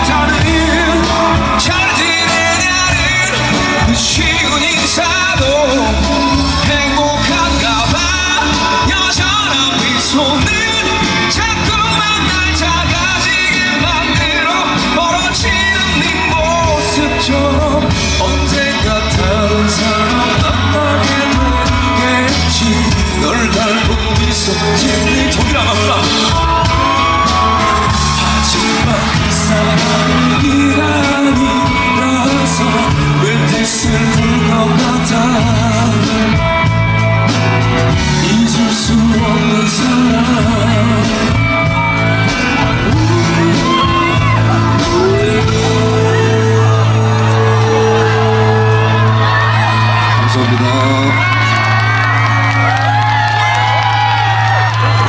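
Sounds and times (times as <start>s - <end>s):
male singer belting: 0.0s - 55.0s
rock band with driving beat: 0.0s - 55.0s.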